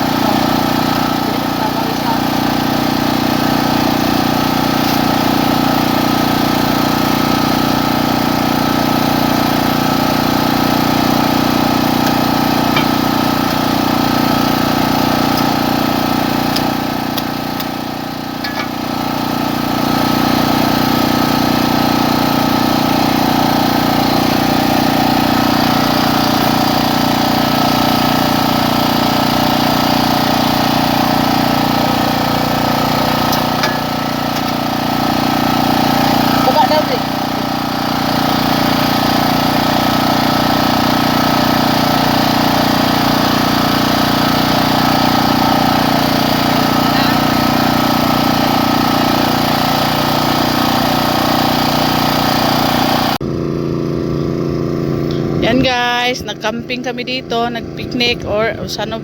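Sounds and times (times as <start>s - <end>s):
portable generator engine running: 0.0s - 59.0s.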